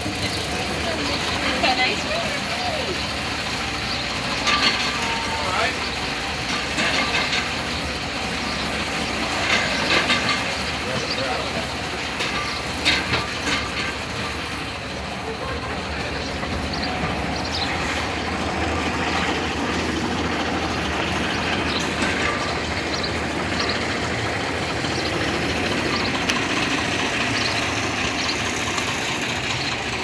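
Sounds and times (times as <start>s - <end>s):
miniature train engine running: 0.0s - 30.0s
wheels on rails: 0.0s - 30.0s.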